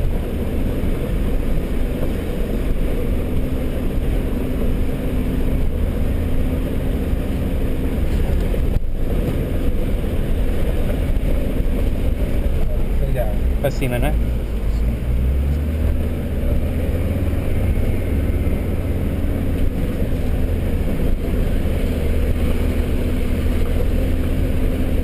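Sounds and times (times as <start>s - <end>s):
engine hum with road rumble: 0.0s - 25.0s.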